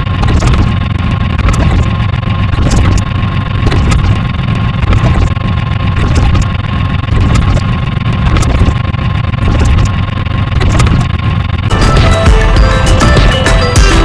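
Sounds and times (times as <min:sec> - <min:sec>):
constant whining tone: 0:00.0 - 0:14.0
engine-like rumble: 0:00.0 - 0:14.0.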